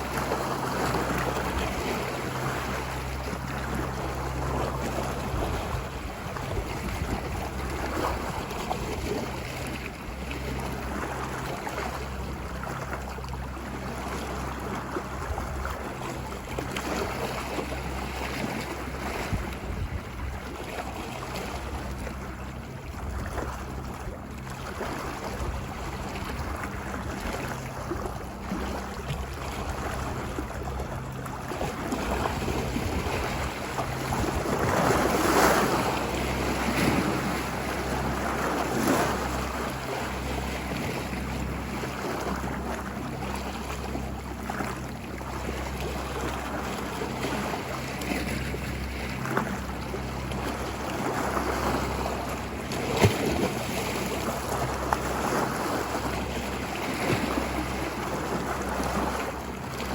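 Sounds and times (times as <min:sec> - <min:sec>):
ocean waves washing ashore: 0:00.0 - 0:59.9
wind rumbling on microphone: 0:00.0 - 0:59.9.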